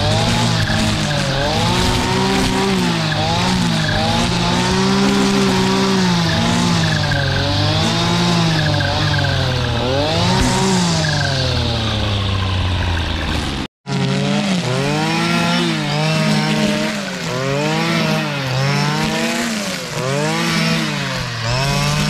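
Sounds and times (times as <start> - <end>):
brush cutter engine: 0.0 - 22.0.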